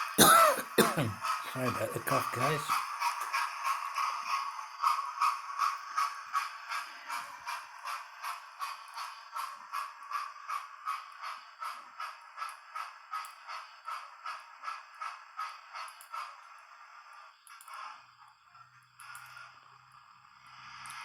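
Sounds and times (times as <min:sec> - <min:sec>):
model train clicking on track: 0:00.0 - 0:21.0.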